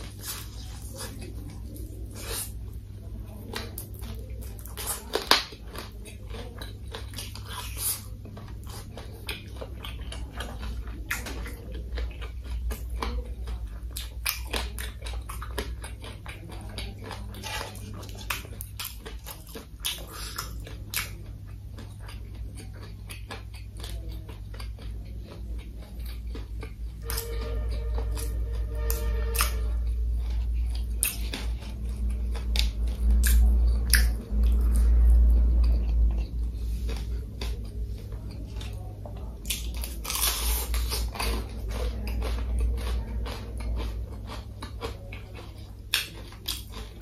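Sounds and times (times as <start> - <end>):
chewing crispy fried food: 0.0 - 47.0.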